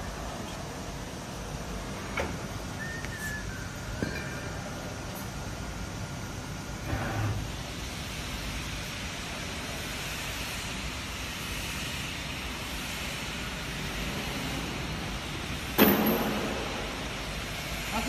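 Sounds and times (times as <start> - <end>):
workshop machinery noise: 0.0 - 18.0.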